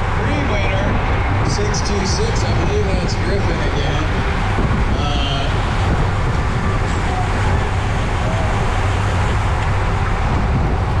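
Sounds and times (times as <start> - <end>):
wind and road rush: 0.0 - 11.0.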